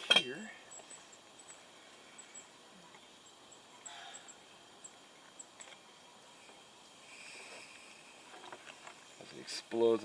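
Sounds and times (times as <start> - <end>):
faint high-pitched chirps: 0.0 - 8.2.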